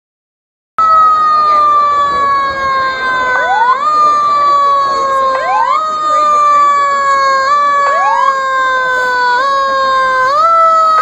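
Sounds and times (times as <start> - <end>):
fire engine siren: 0.8 - 11.0.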